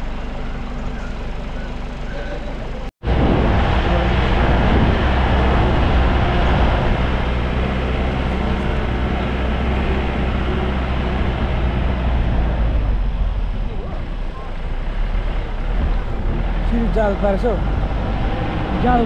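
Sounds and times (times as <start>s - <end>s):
road noise inside vehicle: 0.0s - 19.0s
vehicle engine running: 0.0s - 19.0s.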